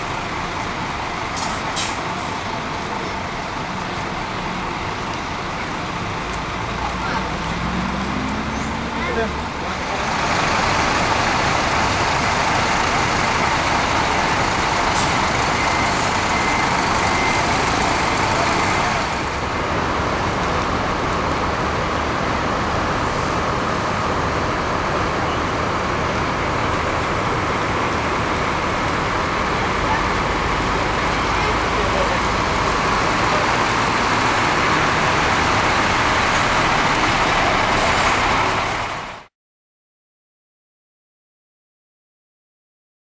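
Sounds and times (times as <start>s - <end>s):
coach road and engine noise: 0.0s - 39.3s.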